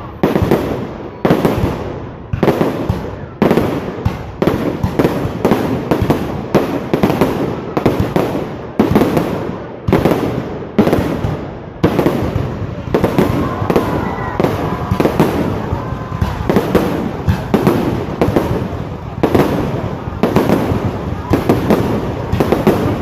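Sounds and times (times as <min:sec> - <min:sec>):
fireworks bangs with crackling tail: 0:00.0 - 0:23.0.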